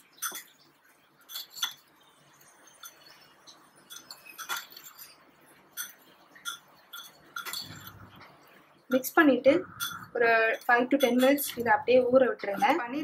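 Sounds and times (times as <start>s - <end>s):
metal spoon clinking on a bowl: 0.1s - 0.6s, 1.3s - 1.9s, 2.7s - 8.2s, 8.9s - 12.8s.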